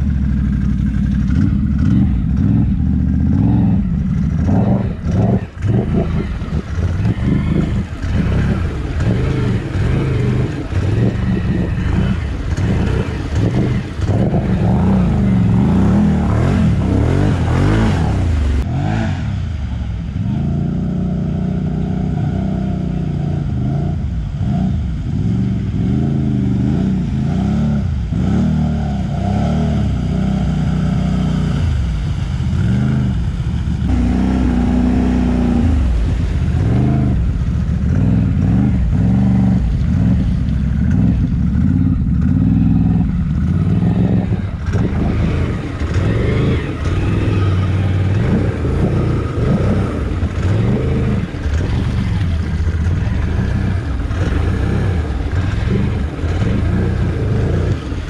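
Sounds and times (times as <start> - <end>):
quad bike engine revving: 0.0 - 19.6, 20.2 - 58.0
driving through muddy water: 0.0 - 58.0.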